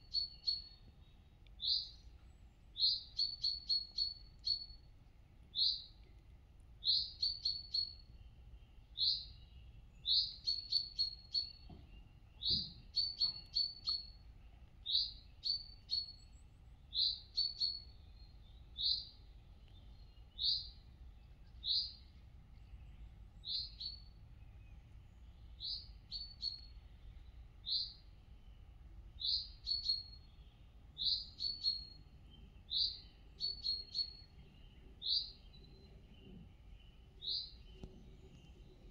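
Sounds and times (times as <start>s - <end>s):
songbird chirping phrases: 0.0s - 4.7s, 5.4s - 6.1s, 6.8s - 38.9s.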